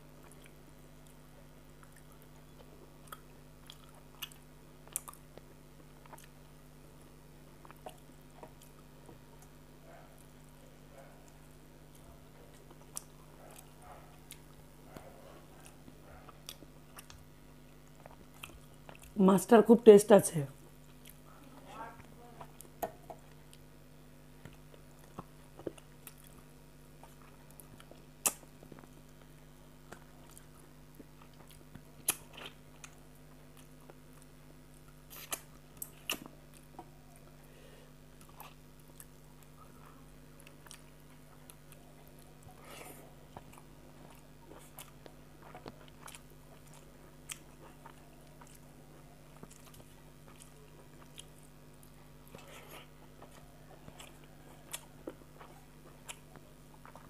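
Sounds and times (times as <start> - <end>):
faint steady hum: 0.0 - 57.0
chewing and wet mouth sounds: 0.2 - 19.2, 20.6 - 21.4, 22.0 - 23.7, 24.4 - 37.5, 38.1 - 57.0.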